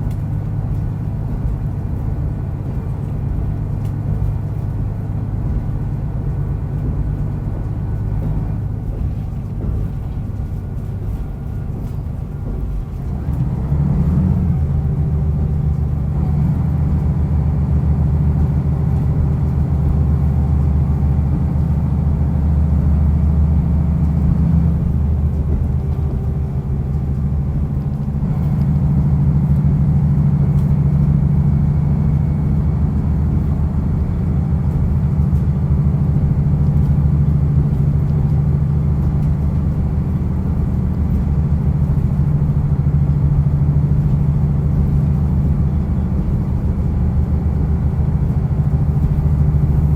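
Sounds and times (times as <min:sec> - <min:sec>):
diesel railcar engine drone: 0:00.0 - 0:49.9
wheel and rail noise: 0:00.0 - 0:49.9.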